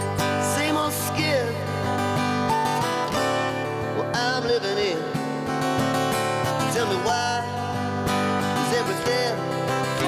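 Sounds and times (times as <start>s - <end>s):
man singing: 0.0s - 2.5s, 3.4s - 10.0s
acoustic guitars strumming: 0.0s - 10.0s.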